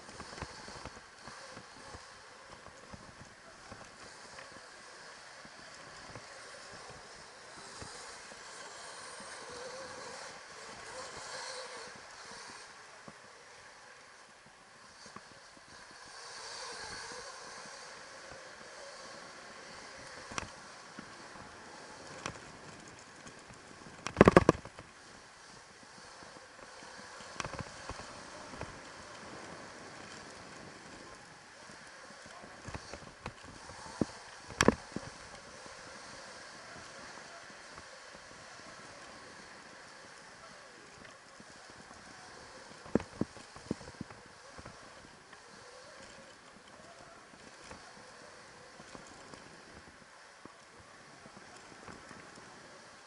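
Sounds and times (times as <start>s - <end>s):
bike knocking and rattling: 0.0s - 53.0s
faint motor whine: 0.0s - 53.0s
low steady hiss: 0.0s - 53.0s.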